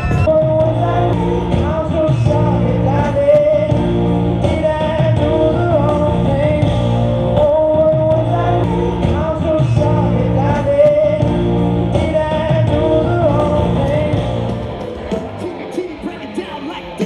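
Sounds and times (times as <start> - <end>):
lead vocal singing: 0.0 - 17.0
rock band with guitar: 0.0 - 17.0.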